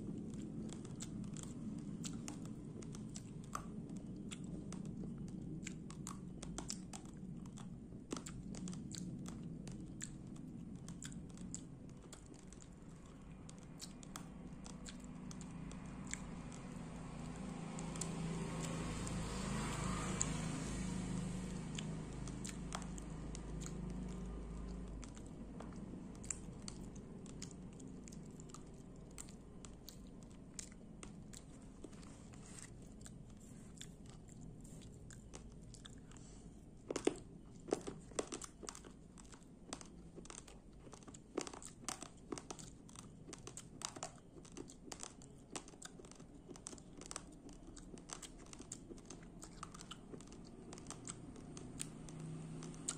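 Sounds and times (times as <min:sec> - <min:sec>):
crunching raw rice: 0:00.0 - 0:52.9.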